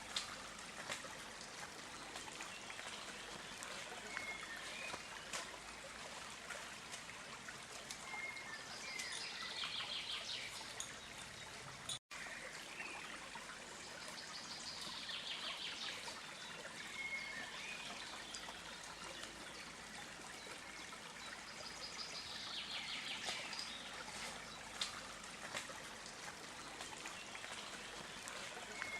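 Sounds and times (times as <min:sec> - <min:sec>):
stream water trickling: 0:00.0 - 0:28.9.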